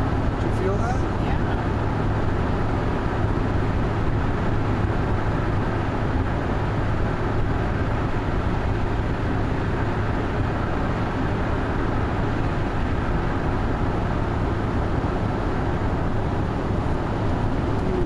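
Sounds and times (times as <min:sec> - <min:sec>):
car road noise: 0:00.0 - 0:18.0.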